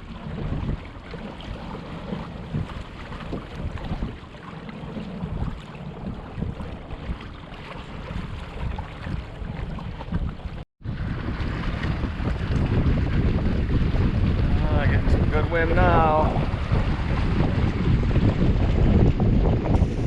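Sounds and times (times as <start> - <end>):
water rushing along hulls: 0.0 - 20.0
wind buffeting microphone: 0.0 - 20.0.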